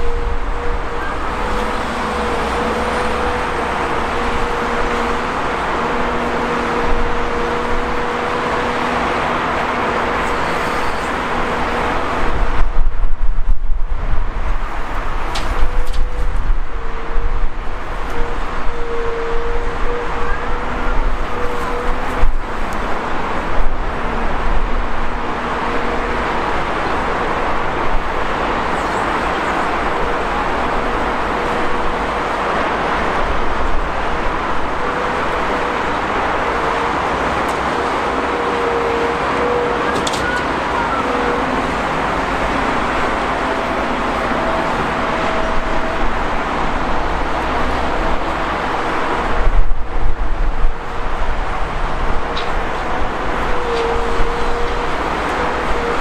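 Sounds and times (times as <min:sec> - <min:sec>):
excavator diesel engine running: 0:00.0 - 0:56.0
highway traffic noise: 0:00.0 - 0:56.0.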